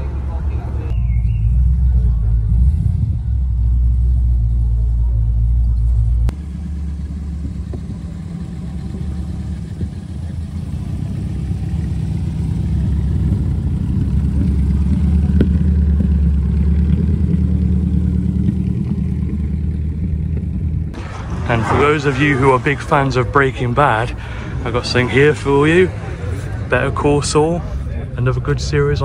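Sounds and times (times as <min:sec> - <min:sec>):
steady low rumble: 0:00.8 - 0:28.8
car engine pulling away: 0:00.9 - 0:28.8.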